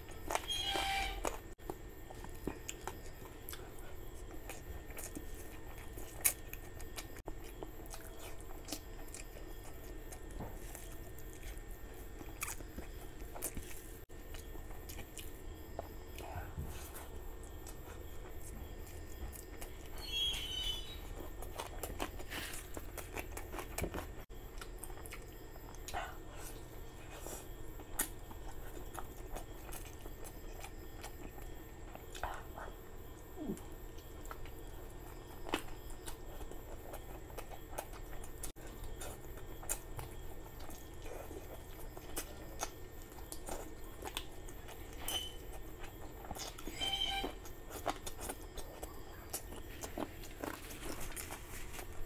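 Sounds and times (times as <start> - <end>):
man chewing and mouth smacks: 1.2 - 52.0.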